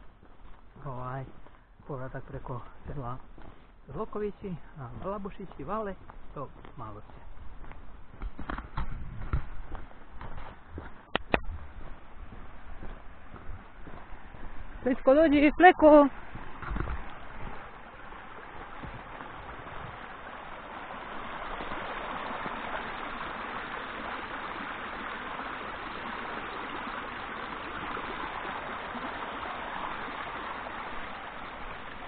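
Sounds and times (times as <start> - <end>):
stream of water flowing over rocks: 0.0 - 32.0.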